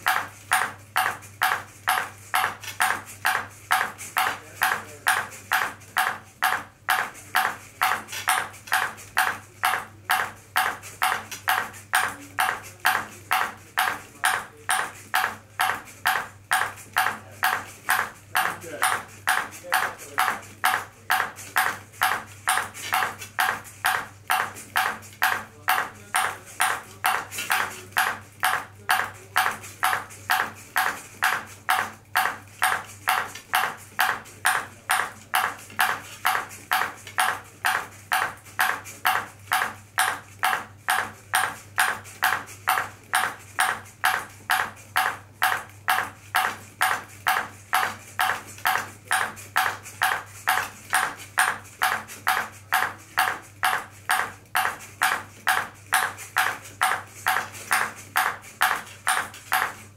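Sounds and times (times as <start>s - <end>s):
ping pong ball bouncing on paddle: 0.0s - 59.9s.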